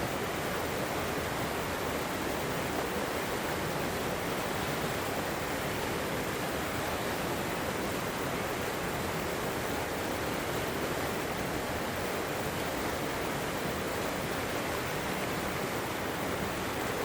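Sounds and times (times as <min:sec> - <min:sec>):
river flowing over rocks: 0:00.0 - 0:17.0.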